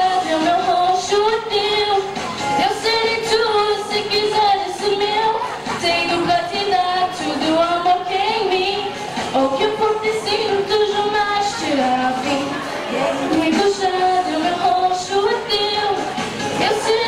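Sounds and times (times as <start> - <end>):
music: 0.0 - 17.0
women singing: 0.0 - 17.0.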